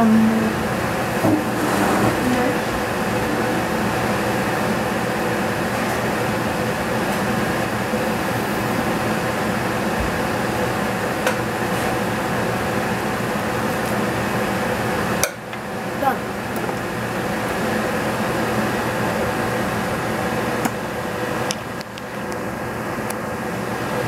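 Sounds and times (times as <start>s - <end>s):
fan or motor whirring hum: 0.0s - 24.0s.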